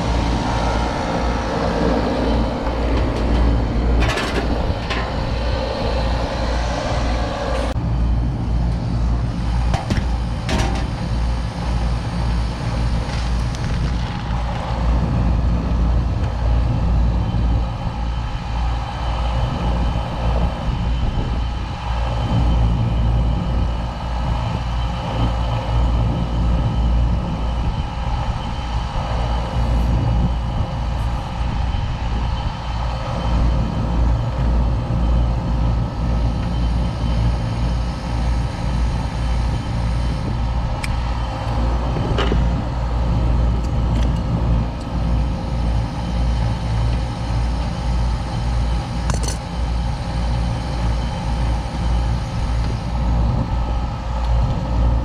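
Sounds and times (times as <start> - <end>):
air conditioner compressor humming: 0.0 - 55.0
fan moving air: 0.0 - 55.0.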